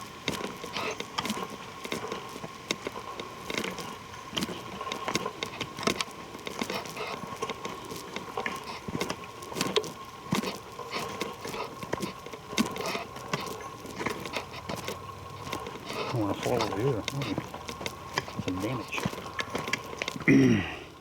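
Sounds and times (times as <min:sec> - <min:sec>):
footsteps crunching on forest trail: 0:00.0 - 0:21.0.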